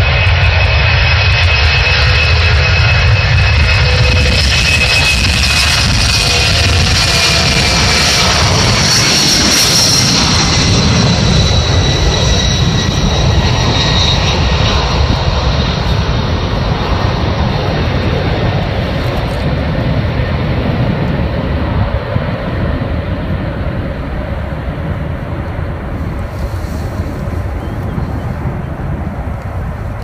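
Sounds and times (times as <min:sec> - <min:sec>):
high engine whine: 0:00.0 - 0:30.0
jet engine roar: 0:00.0 - 0:30.0.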